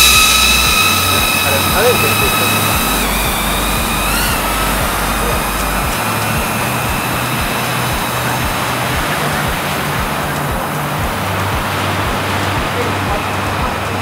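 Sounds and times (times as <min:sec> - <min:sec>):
drone propellers whining: 0:00.0 - 0:14.0
steady rushing noise: 0:00.0 - 0:14.0.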